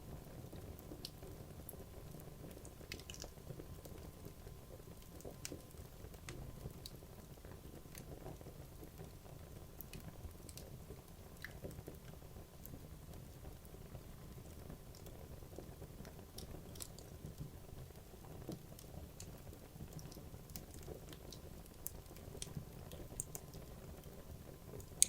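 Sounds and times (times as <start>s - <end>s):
wood fire crackling and popping: 0.3s - 25.0s.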